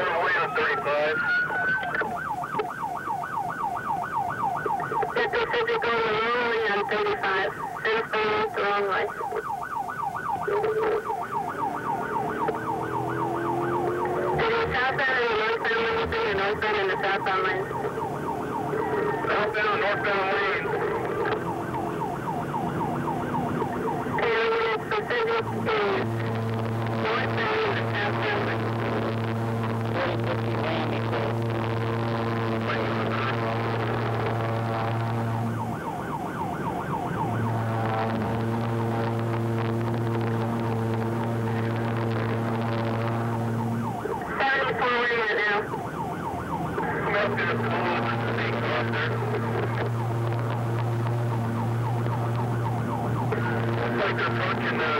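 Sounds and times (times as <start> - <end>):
police siren yelping: 0.0 - 54.9.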